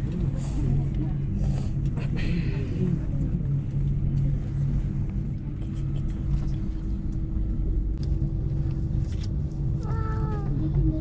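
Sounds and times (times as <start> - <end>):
constant hum: 0.0 - 11.0
low rumble of moving vehicle: 0.0 - 11.0.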